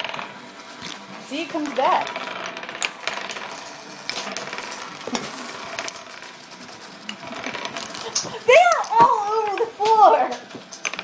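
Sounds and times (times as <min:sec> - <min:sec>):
wooden tokens spinning and rattling: 0:00.0 - 0:11.0.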